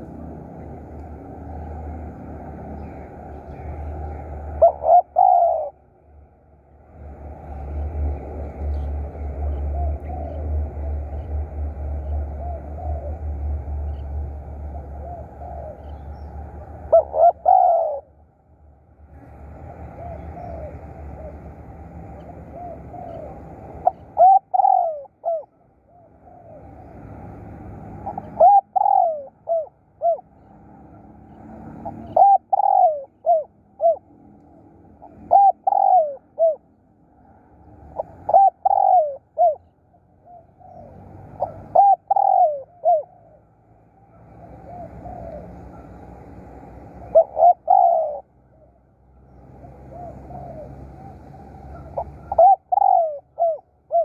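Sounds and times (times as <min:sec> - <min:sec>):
dove cooing: 0:00.0 - 0:05.9, 0:07.4 - 0:18.2, 0:19.2 - 0:31.0, 0:31.8 - 0:34.3, 0:34.9 - 0:36.7, 0:37.9 - 0:48.6, 0:49.2 - 0:54.0.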